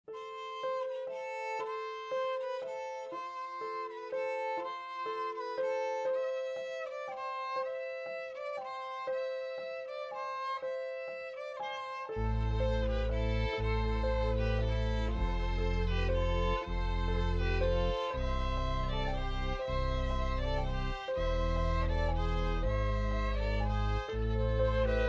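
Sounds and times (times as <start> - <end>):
instrumental background music: 0.1 - 25.0.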